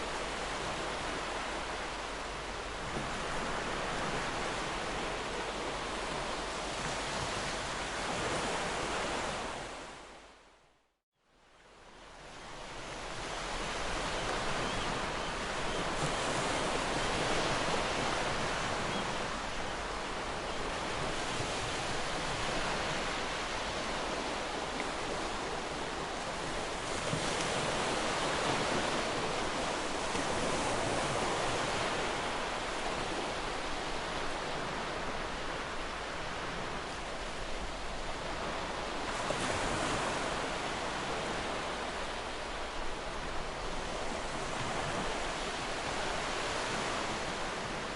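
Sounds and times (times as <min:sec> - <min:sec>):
sea waves breaking on shore: 0:00.0 - 0:10.4, 0:11.7 - 0:47.9.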